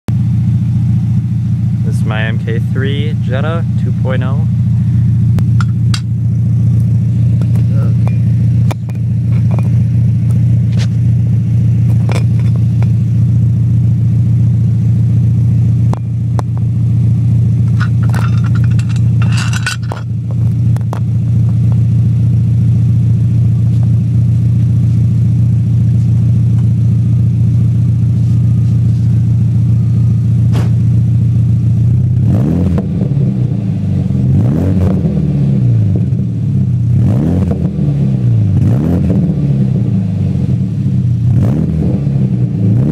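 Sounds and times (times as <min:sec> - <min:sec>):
car engine idling and revving: 0:00.1 - 0:42.9.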